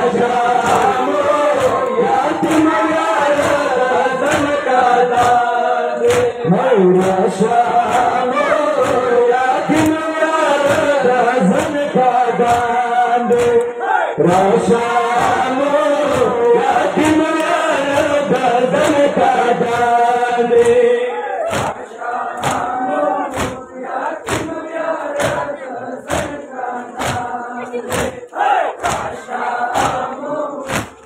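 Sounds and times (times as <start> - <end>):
men chanting a lament: 0.0 - 31.0
rhythmic chest beating: 0.0 - 31.0.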